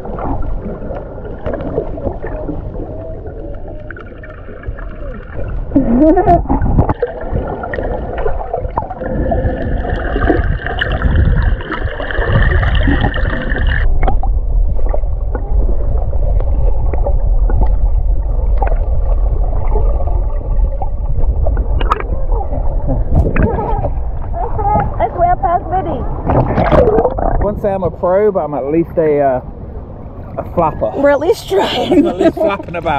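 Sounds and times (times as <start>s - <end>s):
muffled underwater gurgling: 0.0s - 27.7s.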